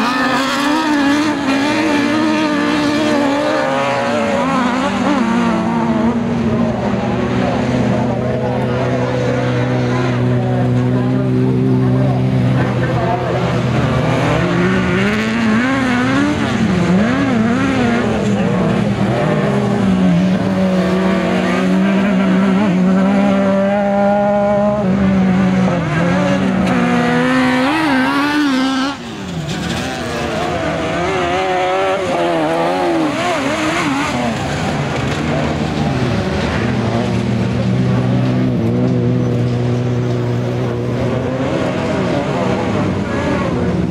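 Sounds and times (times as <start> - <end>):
racing buggy engines revving: 0.0 - 43.9.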